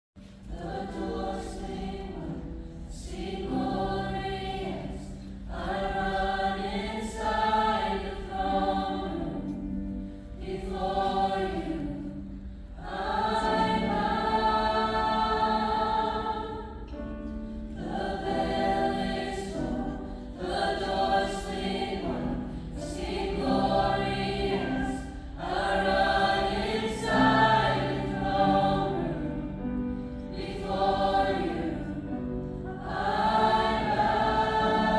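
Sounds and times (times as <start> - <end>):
choir singing: 0.3 - 34.9.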